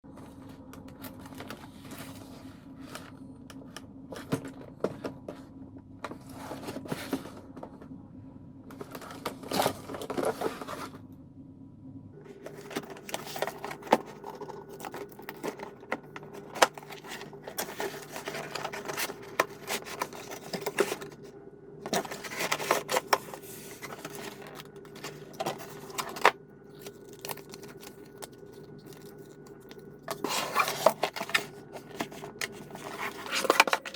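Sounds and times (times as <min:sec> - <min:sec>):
packaging rustling and scraping: 0:00.1 - 0:07.6, 0:08.8 - 0:11.0, 0:12.3 - 0:33.9
steady low hum: 0:00.1 - 0:33.9.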